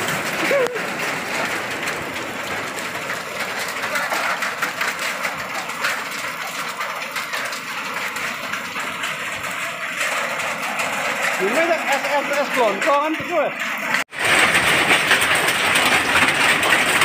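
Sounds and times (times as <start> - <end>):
hail and heavy rain: 0.0 - 17.0.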